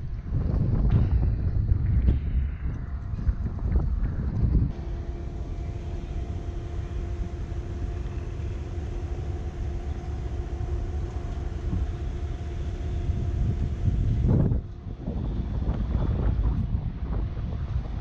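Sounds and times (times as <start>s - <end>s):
distant locomotive hum: 1.3s - 18.0s.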